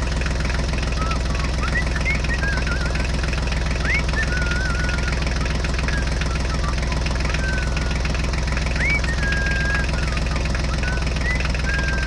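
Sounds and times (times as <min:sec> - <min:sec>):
tractor engine chugging: 0:00.0 - 0:12.0
high whistled chirps: 0:00.9 - 0:03.1, 0:03.8 - 0:12.0.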